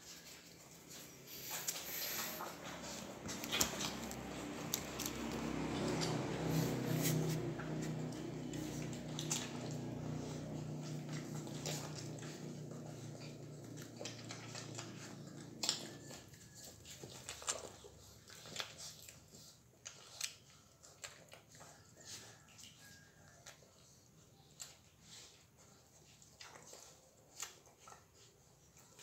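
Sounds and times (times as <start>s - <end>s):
puppies wet sucking and smacking: 0.0s - 29.0s.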